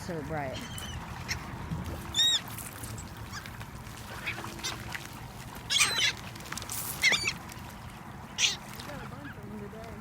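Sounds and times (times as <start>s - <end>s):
seagulls calling: 0.4s - 9.6s.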